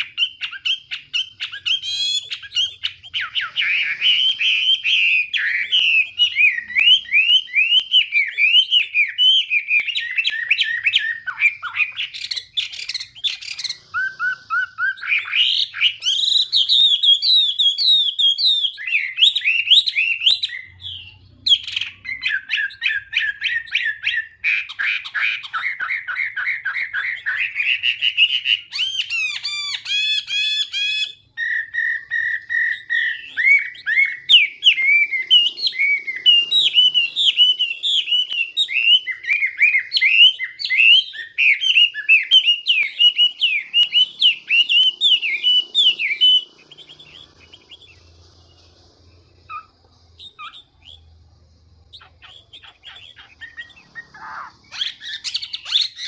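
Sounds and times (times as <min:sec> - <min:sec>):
bird whistling and warbling: 0:00.0 - 0:51.2, 0:51.9 - 0:56.0.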